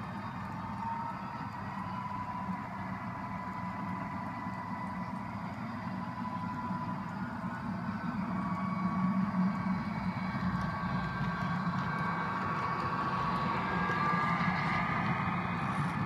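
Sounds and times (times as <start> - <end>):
faint steady whines: 0.0 - 16.0
model trains rumbling on rails: 0.0 - 16.0.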